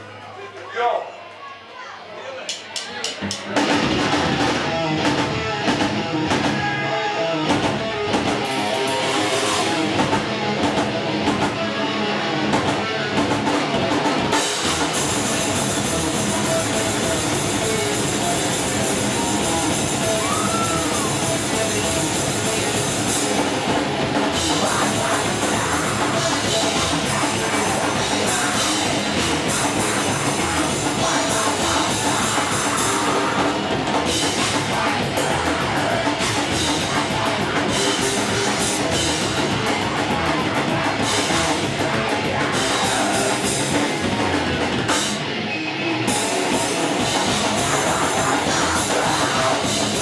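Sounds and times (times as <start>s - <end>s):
thrash metal band playing live: 2.5s - 50.0s.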